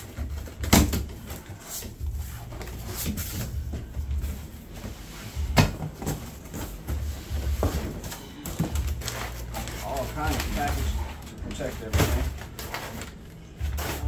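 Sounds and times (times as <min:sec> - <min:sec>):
packing paper rustling: 0:00.0 - 0:14.0.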